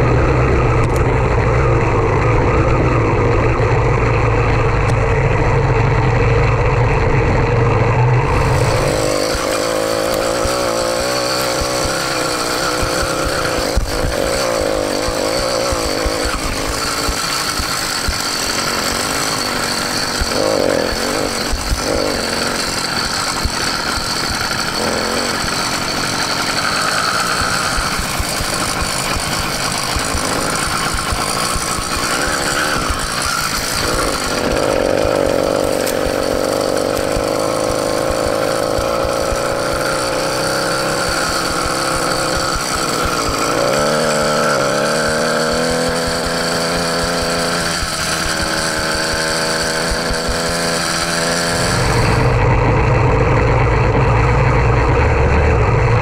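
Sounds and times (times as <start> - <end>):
small gas engine running: 0.0 - 56.0.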